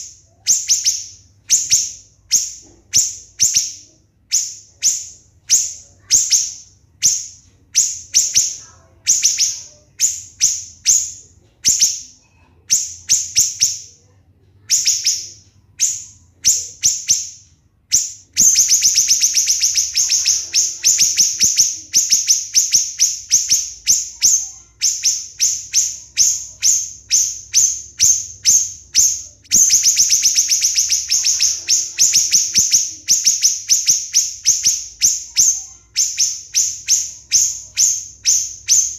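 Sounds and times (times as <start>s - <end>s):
bird singing shrill notes: 0.0s - 14.0s, 14.6s - 38.9s.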